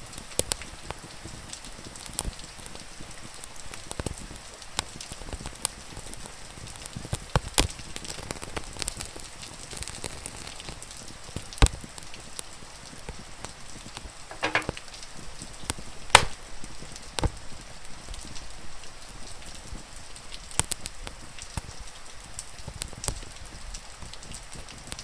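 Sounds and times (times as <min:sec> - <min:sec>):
rain hissing: 0:00.0 - 0:25.0
wood fire crackling and popping: 0:00.1 - 0:18.5, 0:19.3 - 0:25.0.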